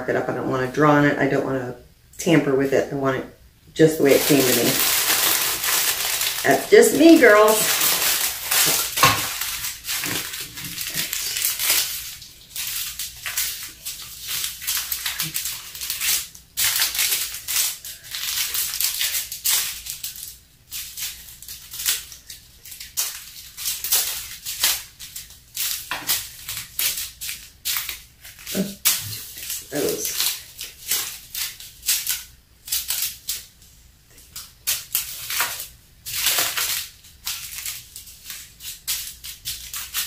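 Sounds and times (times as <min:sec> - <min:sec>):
plastic bags crinkling: 0:03.9 - 0:40.0.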